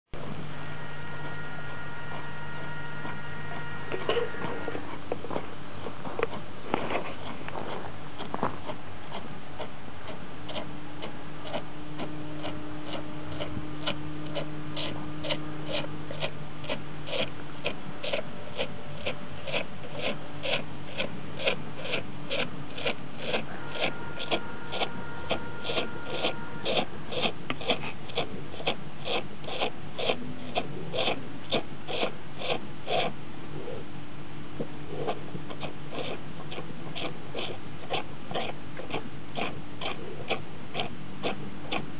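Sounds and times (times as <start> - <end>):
cow sucking milk: 0.7 - 33.9, 34.6 - 41.9.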